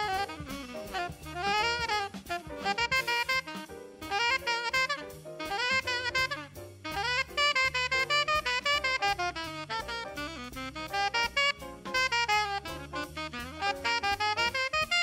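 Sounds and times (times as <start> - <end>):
bass: 0.0 - 15.0
drums: 0.0 - 15.0
tenor saxophone jazz phrases: 0.0 - 15.0.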